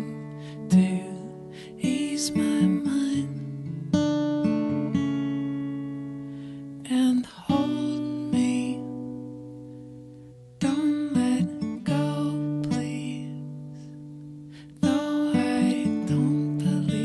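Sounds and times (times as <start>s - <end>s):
acoustic guitar strums: 0.0s - 17.0s.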